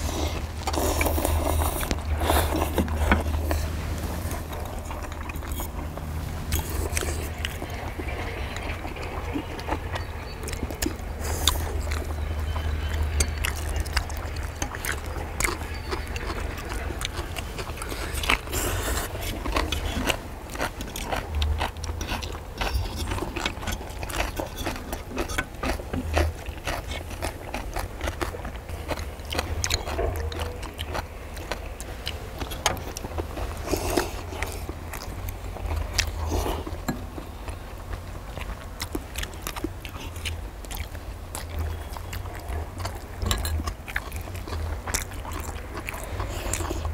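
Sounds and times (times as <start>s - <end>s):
chewing: 0.0s - 46.9s.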